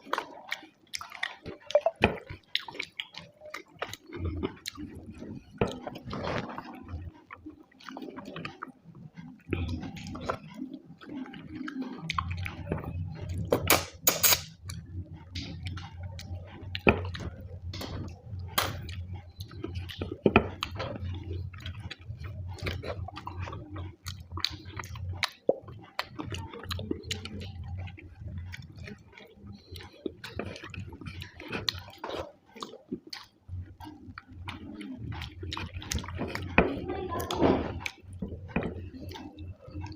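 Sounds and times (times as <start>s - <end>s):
person chewing food: 0.0s - 39.9s
low steady hum: 3.8s - 39.9s.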